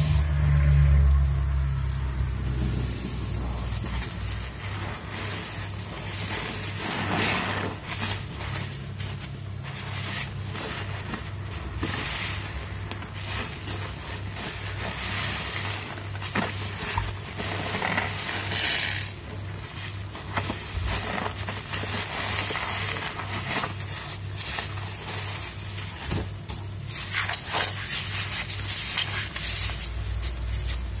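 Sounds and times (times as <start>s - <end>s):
steady low hum: 0.0s - 31.0s
wet squelching of foam sponges: 0.0s - 31.0s.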